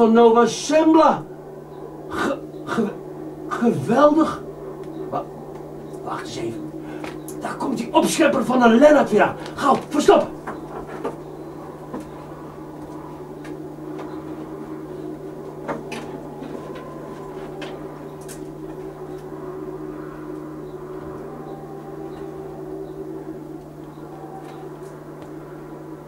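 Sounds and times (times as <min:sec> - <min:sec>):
faint sustained tones: 0:00.0 - 0:26.0
steady low hum: 0:00.0 - 0:26.0.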